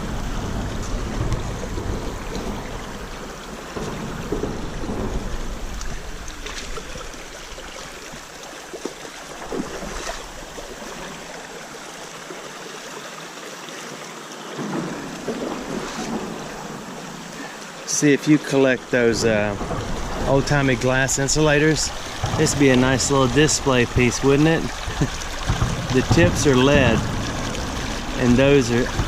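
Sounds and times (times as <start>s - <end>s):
creek water running: 0.0s - 29.0s
splashes of wading: 0.0s - 29.0s.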